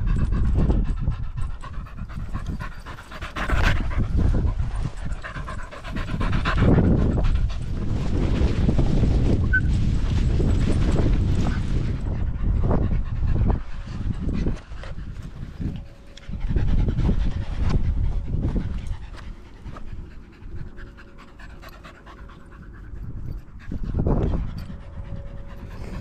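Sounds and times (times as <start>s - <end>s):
dog panting: 0.0s - 8.5s, 10.3s - 26.0s.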